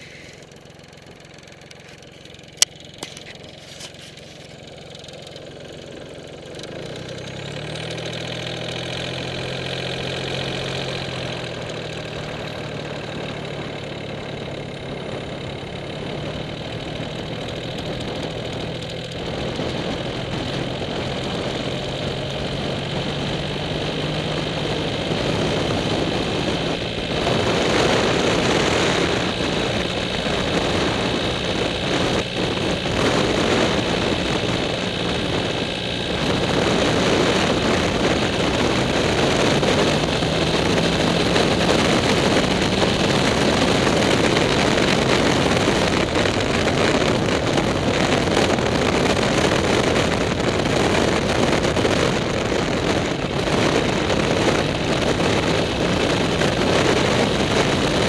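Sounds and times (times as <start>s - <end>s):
motorcycle engine accelerating: 0.0s - 58.0s
wind noise: 10.6s - 58.0s.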